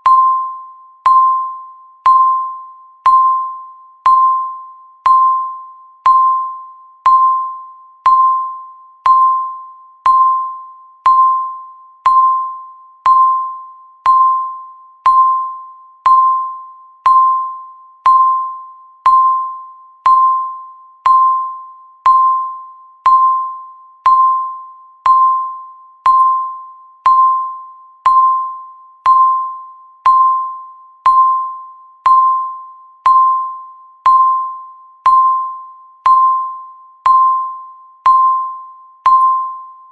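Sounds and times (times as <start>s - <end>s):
timer ticking pinging tone: 0.0s - 39.9s.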